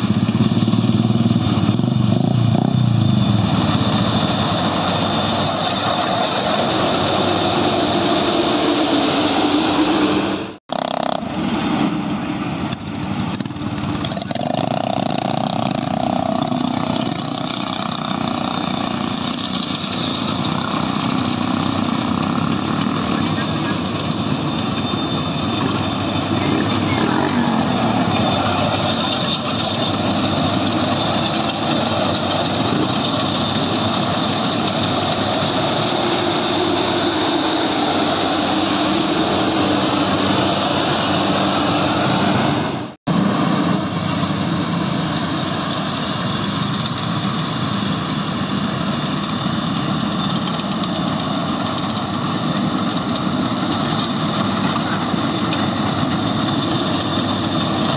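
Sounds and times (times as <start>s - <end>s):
combine harvester diesel engine: 0.0s - 57.9s
high machinery whine: 0.0s - 57.9s.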